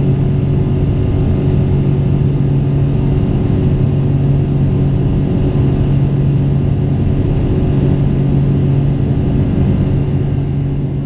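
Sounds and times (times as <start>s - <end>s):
airliner engines droning in cabin: 0.0s - 11.0s.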